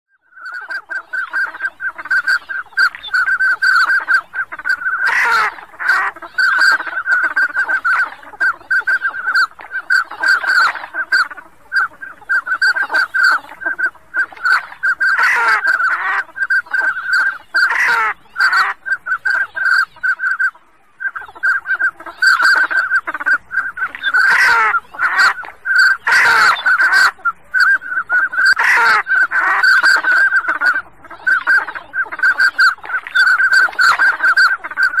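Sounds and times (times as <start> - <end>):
duck call whistles: 0.4 - 35.0.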